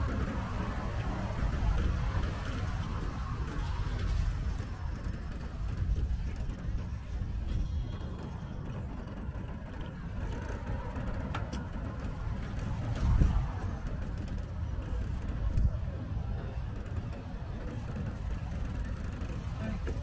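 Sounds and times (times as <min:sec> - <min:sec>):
wind and road noise rumble: 0:00.0 - 0:20.0.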